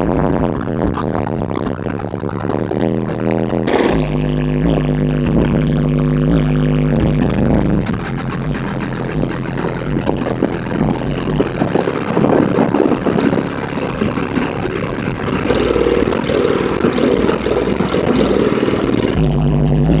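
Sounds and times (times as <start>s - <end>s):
loud distorted subwoofer bass: 0.0s - 20.0s
crackle over bass: 0.3s - 20.0s
steady low bass note: 3.5s - 20.0s.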